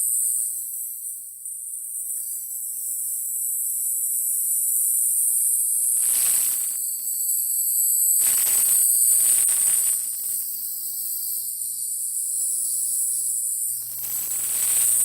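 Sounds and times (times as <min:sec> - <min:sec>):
power supply high-pitched whine: 0:00.0 - 0:15.0.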